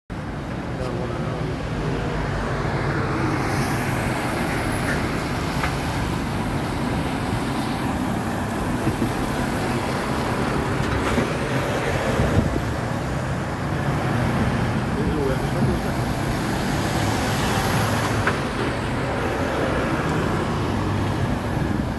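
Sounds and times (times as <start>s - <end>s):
lorries driving past: 0.1s - 21.9s.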